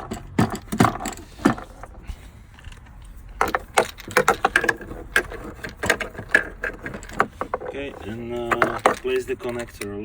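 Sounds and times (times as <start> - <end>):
plastic pump fittings clicking: 0.0 - 10.0.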